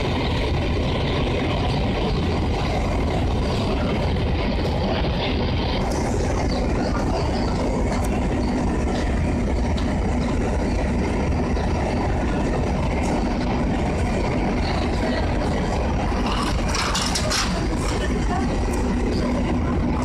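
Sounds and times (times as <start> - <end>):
diesel locomotive engines droning: 0.0 - 20.0.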